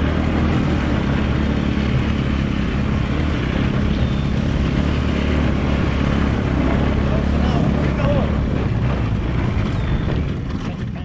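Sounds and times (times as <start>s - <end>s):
small engine running: 0.0s - 11.0s
wind on microphone: 0.0s - 11.0s.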